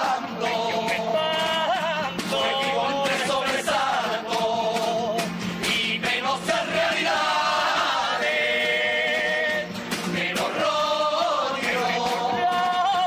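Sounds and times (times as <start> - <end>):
guitar: 0.0 - 13.0.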